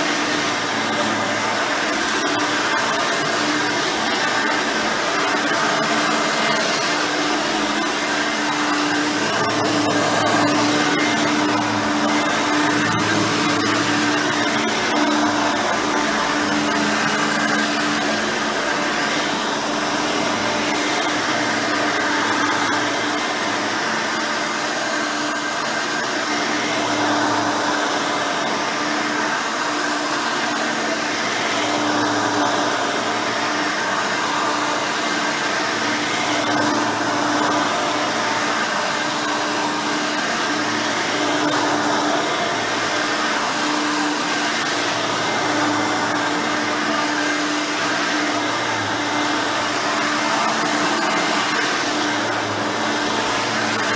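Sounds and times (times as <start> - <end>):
upright vacuum cleaner running: 0.0 - 53.9.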